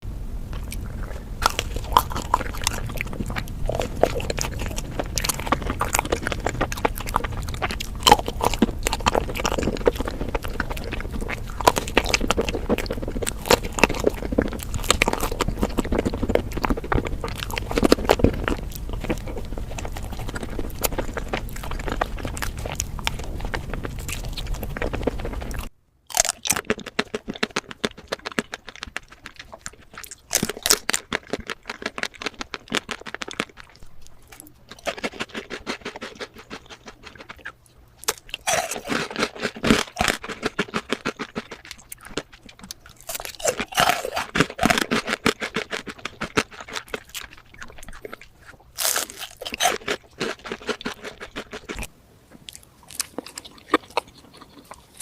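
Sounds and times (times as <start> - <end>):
crunching and chewing sweets: 0.0 - 55.0.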